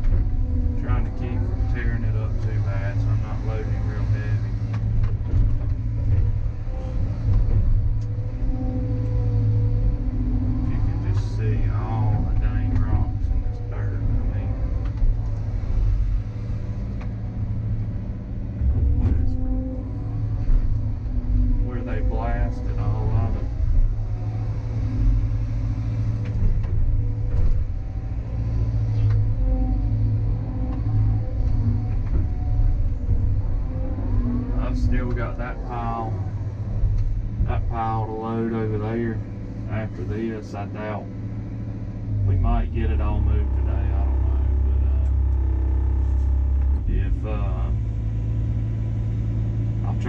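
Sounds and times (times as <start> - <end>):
excavator diesel engine running: 0.0 - 50.0
faint wavering hydraulic whine: 0.0 - 50.0.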